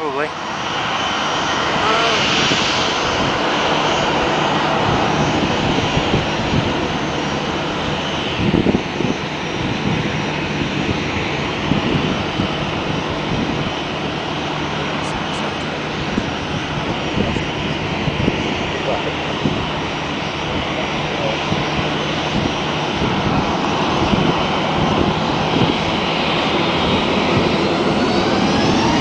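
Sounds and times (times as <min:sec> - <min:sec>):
jet engine whine: 0:00.0 - 0:29.0.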